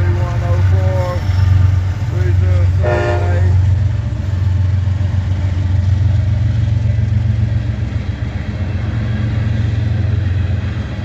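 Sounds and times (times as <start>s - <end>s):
diesel locomotives passing: 0.0s - 11.0s.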